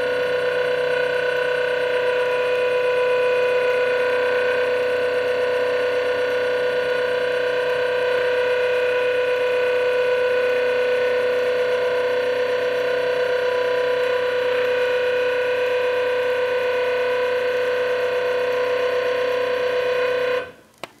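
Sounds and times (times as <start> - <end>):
stepper motors whining: 0.0 - 20.6.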